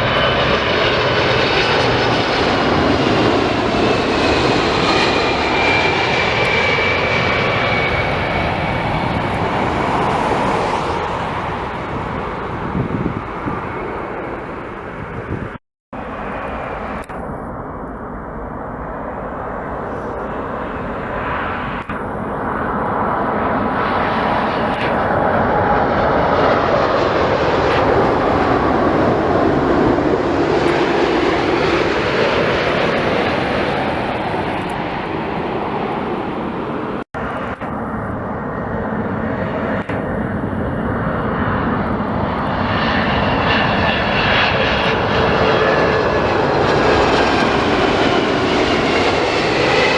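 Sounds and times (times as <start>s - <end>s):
high engine whine: 0.0s - 49.9s
jet airliner engines passing: 0.0s - 49.9s.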